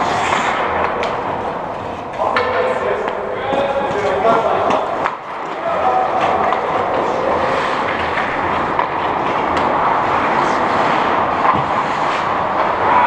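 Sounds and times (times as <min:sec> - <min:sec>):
ice rink rushing ambience: 0:00.0 - 0:13.0.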